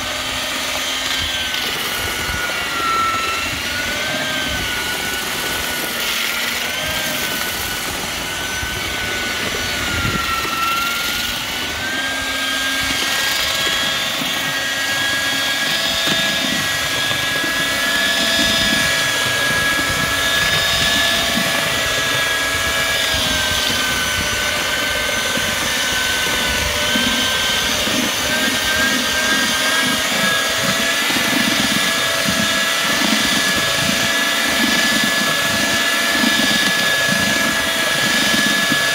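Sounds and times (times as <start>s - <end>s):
electric mortar mixer motor whining: 0.0s - 38.9s
paddles churning mortar: 0.0s - 38.9s.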